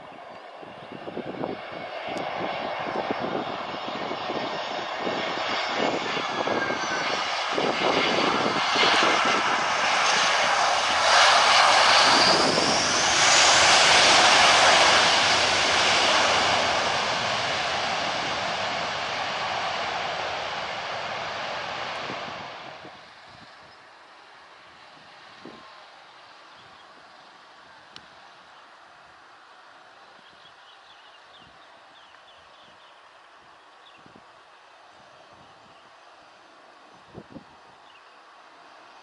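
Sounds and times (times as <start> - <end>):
jet engine roar with whine: 0.0 - 39.0.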